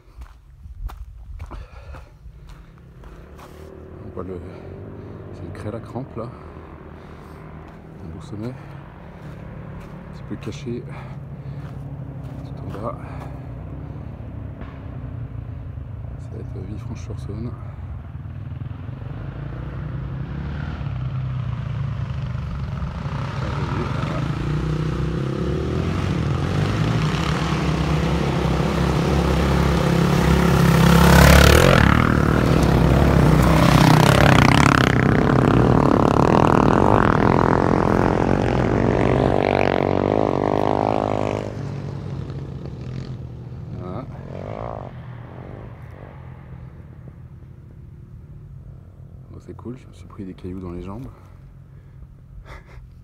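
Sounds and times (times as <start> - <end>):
quad bike engines revving: 1.4 - 53.0.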